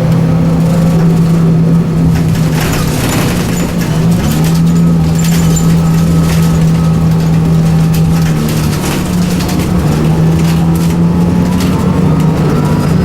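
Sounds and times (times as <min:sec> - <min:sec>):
bus engine drone: 0:00.0 - 0:13.0
light rattles and clicks: 0:00.0 - 0:13.0.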